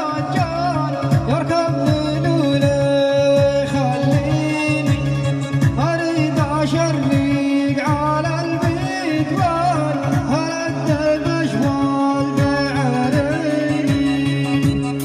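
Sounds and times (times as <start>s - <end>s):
bending melody: 0.0s - 15.0s.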